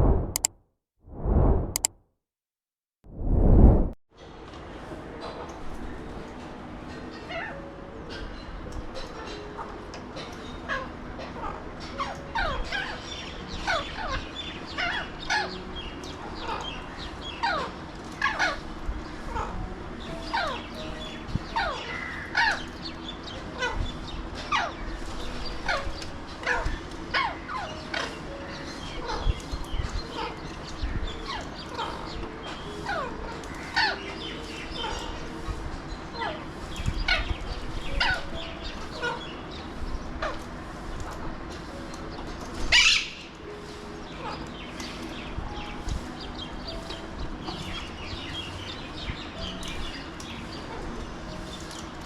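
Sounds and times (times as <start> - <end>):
parakeets calling: 6.9 - 52.0.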